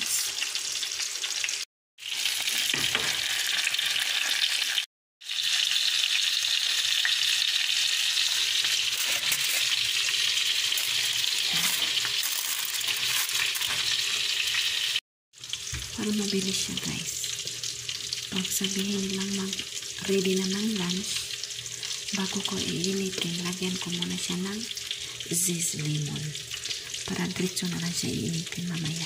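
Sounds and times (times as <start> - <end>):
fish sizzling in butter: 0.0 - 29.0.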